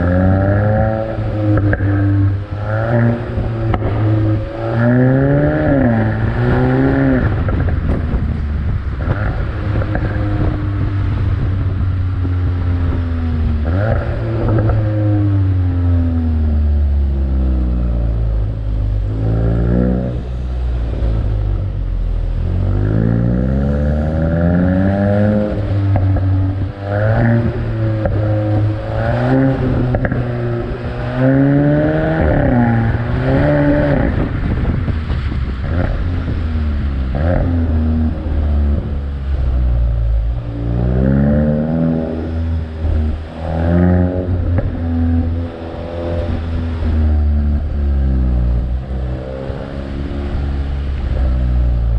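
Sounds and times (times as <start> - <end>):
car engine accelerating: 0.0 - 51.9
low road rumble: 0.0 - 51.9.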